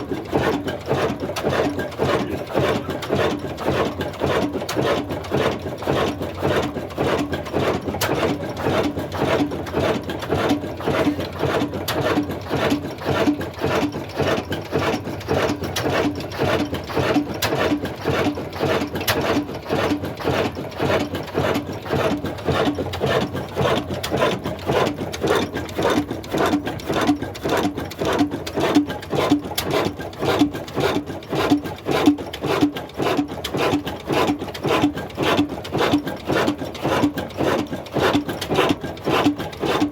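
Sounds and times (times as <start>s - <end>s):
diesel engine running slowly: 0.0s - 39.9s.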